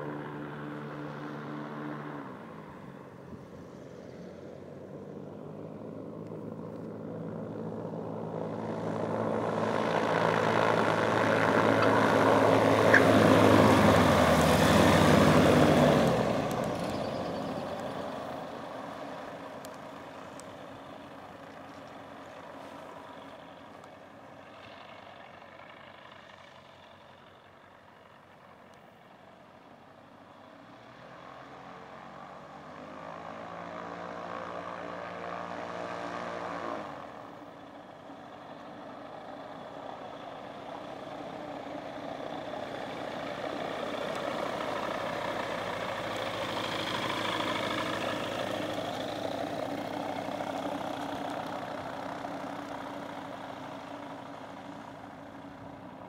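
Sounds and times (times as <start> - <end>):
ultralight aircraft engine and propeller: 0.0 - 56.0.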